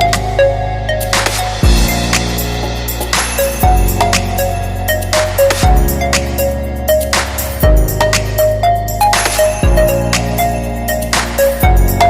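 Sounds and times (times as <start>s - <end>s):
electronic beat music: 0.0s - 12.0s.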